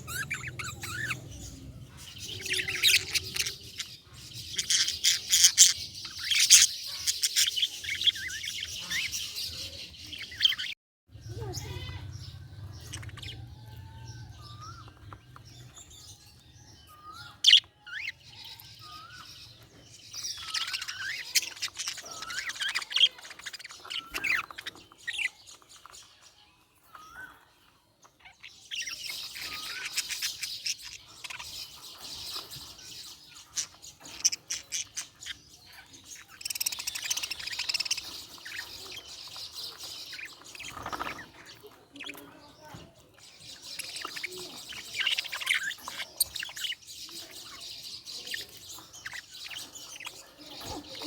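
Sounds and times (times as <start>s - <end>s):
budgerigars chirping and warbling: 0.0s - 51.0s.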